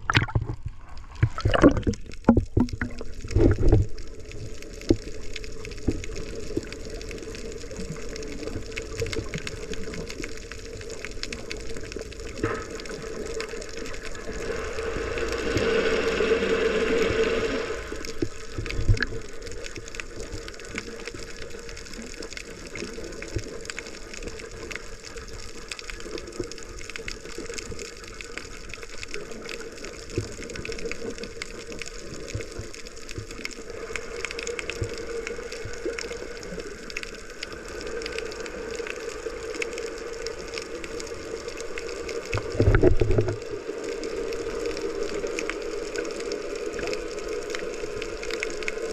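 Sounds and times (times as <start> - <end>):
water sloshing and bubbling: 0.0 - 48.9.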